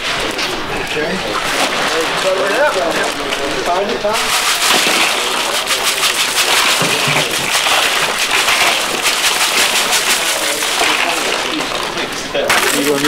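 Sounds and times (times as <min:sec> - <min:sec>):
crushed ice clattering: 0:00.0 - 0:13.0.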